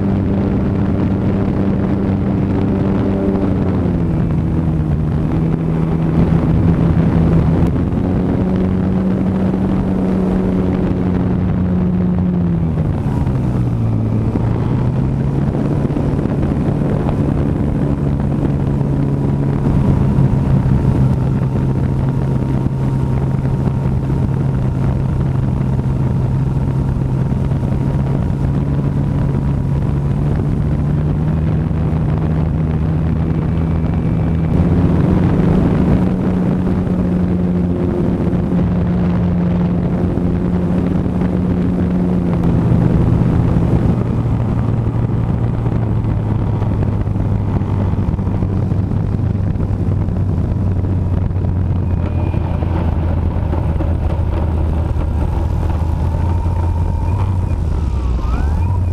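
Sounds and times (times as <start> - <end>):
model airplane engine and propeller: 0.0 - 58.9.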